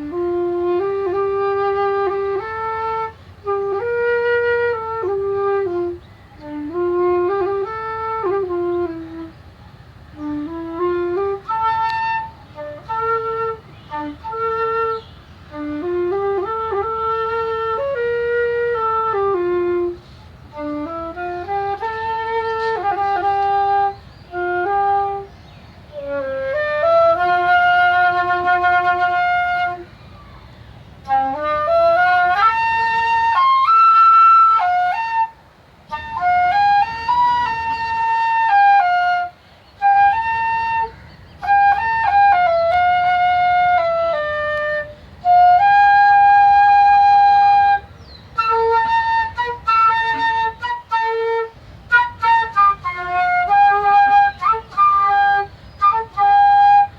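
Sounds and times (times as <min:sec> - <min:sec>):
solo flute playing sad melody: 0:00.0 - 0:56.9.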